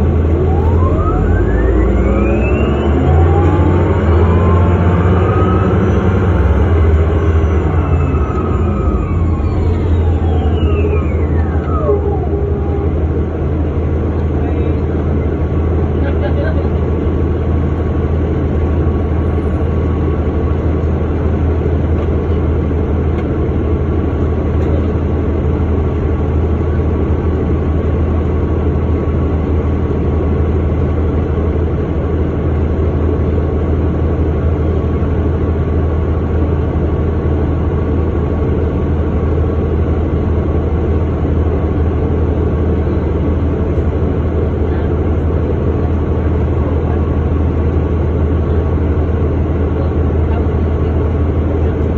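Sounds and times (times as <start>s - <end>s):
bus engine droning with whine: 0.0s - 51.9s.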